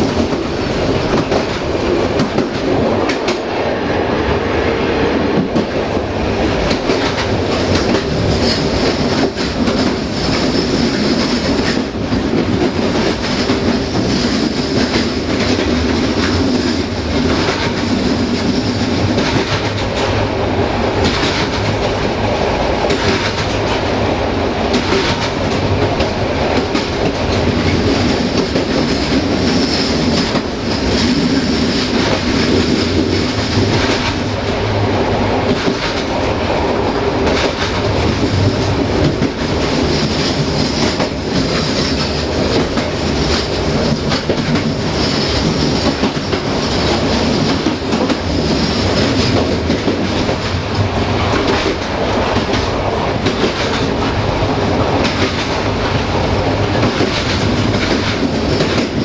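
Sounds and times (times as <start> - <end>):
train wheels rumbling on rail: 0.0 - 59.0
rail joint clatter: 5.4 - 20.4, 21.0 - 22.2, 22.8 - 24.0, 24.6 - 34.6, 37.2 - 59.0.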